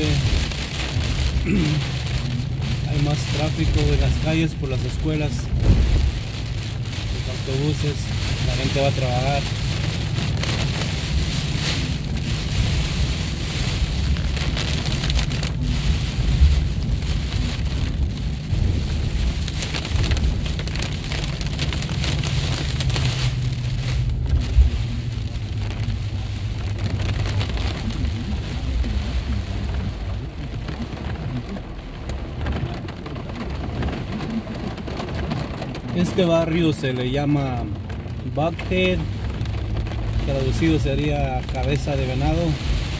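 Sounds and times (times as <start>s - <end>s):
engine and tyres rumbling: 0.0s - 42.9s
heavy rain on car roof: 0.0s - 42.9s.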